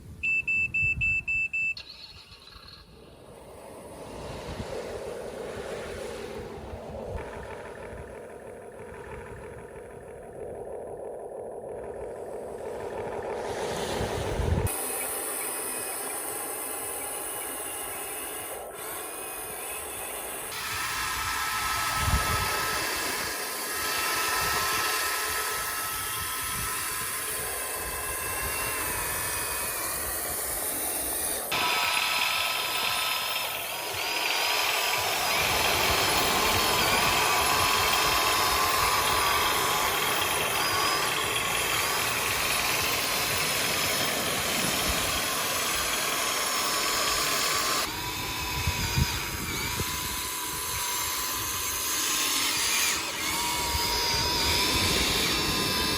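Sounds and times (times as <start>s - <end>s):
toy electric motors whining: 0.0s - 55.9s.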